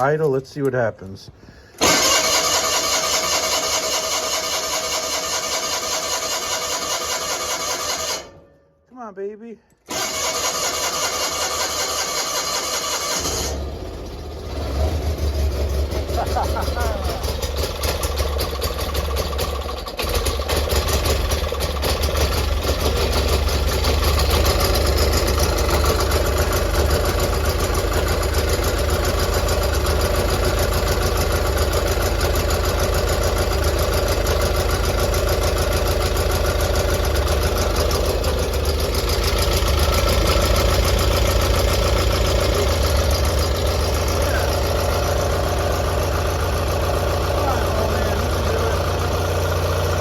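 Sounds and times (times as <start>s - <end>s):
tractor engine running: 1.7s - 8.4s, 9.9s - 50.0s.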